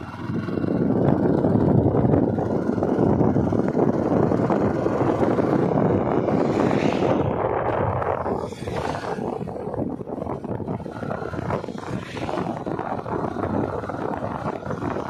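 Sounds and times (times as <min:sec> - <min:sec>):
motorcycle engine: 0:00.0 - 0:15.0
wind rushing over microphone: 0:00.0 - 0:15.0.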